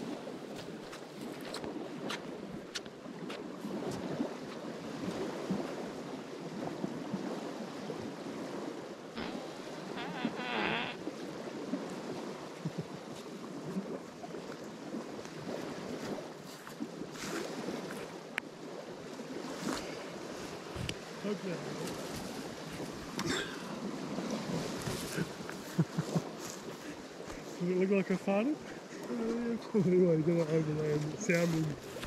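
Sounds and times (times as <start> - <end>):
wind buffeting microphone: 0.0 - 27.8
water rushing along hull: 0.0 - 32.0.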